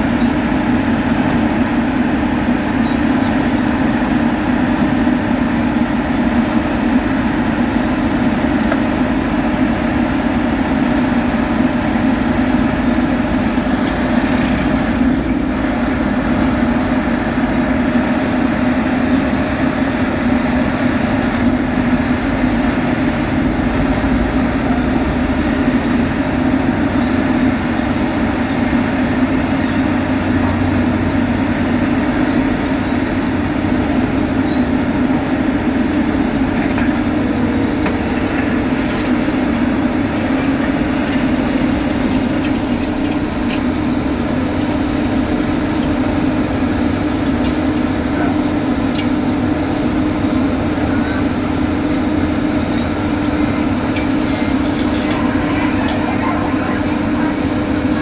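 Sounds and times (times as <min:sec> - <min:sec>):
construction machinery engine drone: 0:00.0 - 0:58.0.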